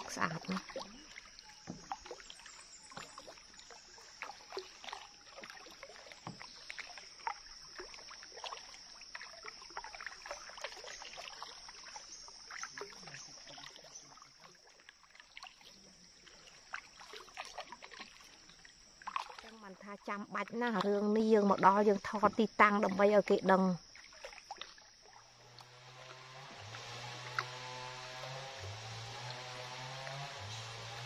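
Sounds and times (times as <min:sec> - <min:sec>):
paddles splashing in water: 0:00.0 - 0:31.0.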